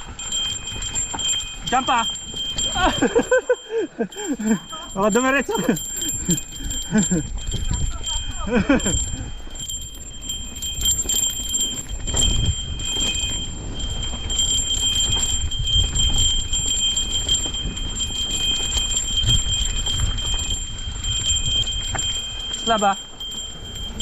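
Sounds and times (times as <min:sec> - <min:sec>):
bike ticking and rattling: 0:00.0 - 0:24.0.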